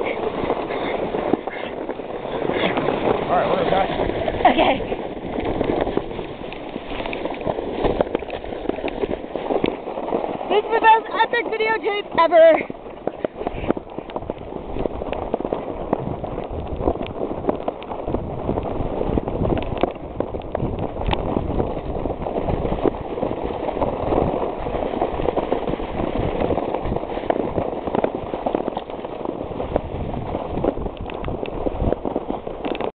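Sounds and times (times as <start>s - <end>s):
plastic sled sliding over snow: 0.0s - 32.9s.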